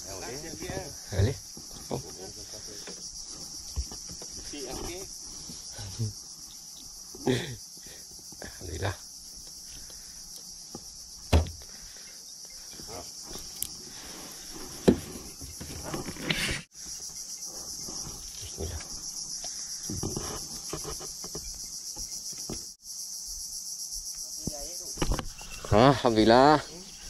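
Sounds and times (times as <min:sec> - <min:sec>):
night insects chorus: 0:00.0 - 0:27.0.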